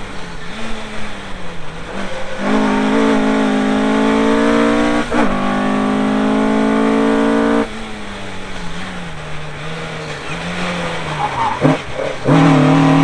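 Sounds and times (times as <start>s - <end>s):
race car engine: 0.0s - 13.0s.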